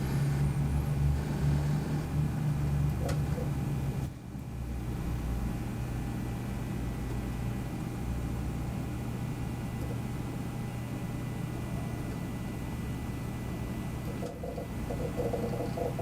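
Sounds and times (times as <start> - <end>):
computer hum and whir: 0.0 - 16.0.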